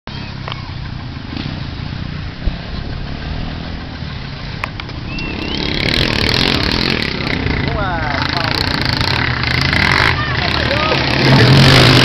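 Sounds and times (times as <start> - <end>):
car engines running: 0.1 - 12.0.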